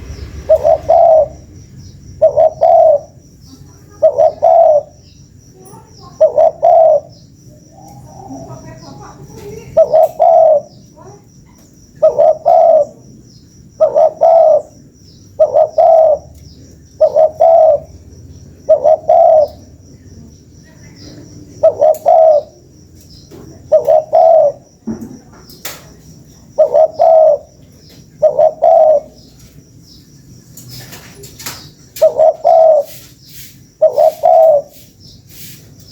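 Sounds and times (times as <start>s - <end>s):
dove cooing: 0.0s - 5.3s, 5.9s - 11.0s, 11.8s - 19.9s, 20.9s - 24.8s, 26.2s - 29.6s, 30.7s - 33.1s, 33.8s - 34.9s.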